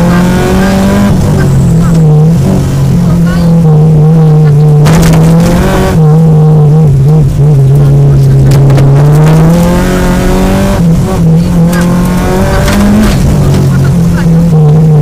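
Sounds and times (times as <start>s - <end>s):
rally car engine running hard: 0.0s - 15.0s.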